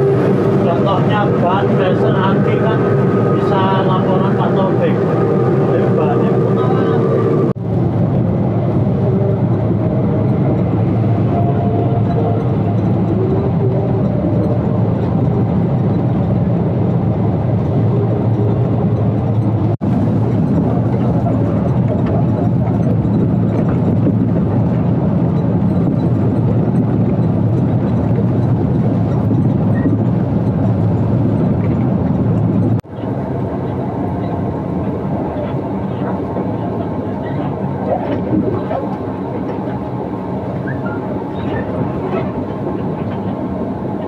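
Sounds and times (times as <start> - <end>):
bus engine drone: 0.0 - 44.0
road noise: 0.0 - 44.0.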